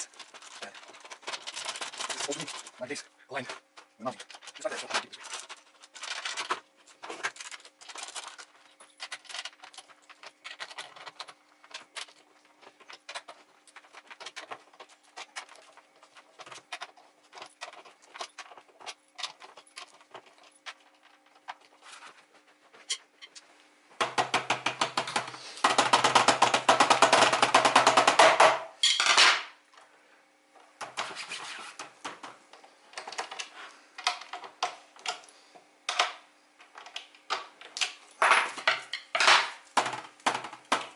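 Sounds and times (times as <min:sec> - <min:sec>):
plastic parts clicking and rattling: 0:00.0 - 0:23.4, 0:30.8 - 0:35.3, 0:35.9 - 0:40.9.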